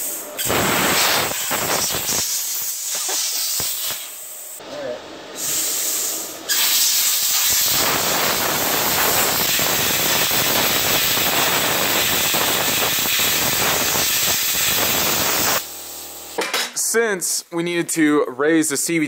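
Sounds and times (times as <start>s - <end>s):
welding arc crackling: 0.0s - 4.6s, 5.4s - 16.4s.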